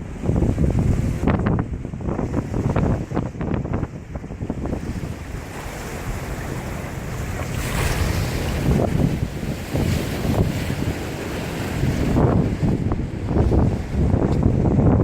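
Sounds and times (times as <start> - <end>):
sea surf washing ashore: 0.0 - 15.0
wind buffeting microphone: 0.0 - 15.0.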